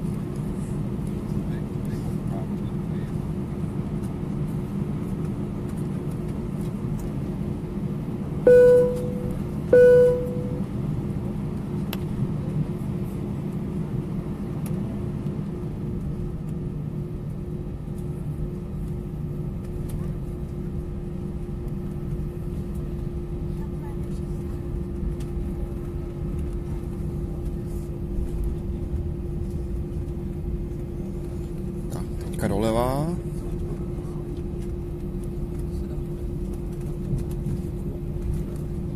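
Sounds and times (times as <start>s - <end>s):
jet engines humming: 0.0s - 32.3s.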